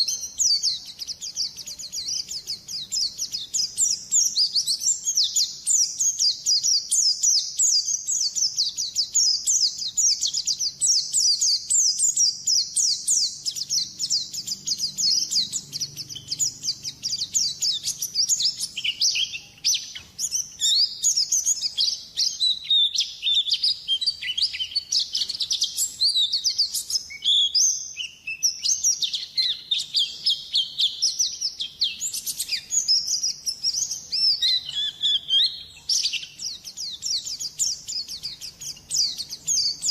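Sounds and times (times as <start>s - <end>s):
high-pitched bird twittering: 0.0s - 39.9s.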